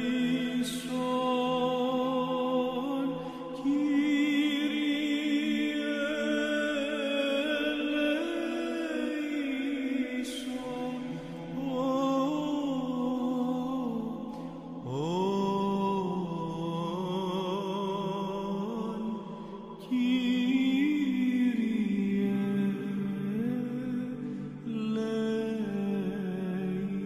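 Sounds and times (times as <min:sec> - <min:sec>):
man chanting slow melody: 0:00.0 - 0:27.0.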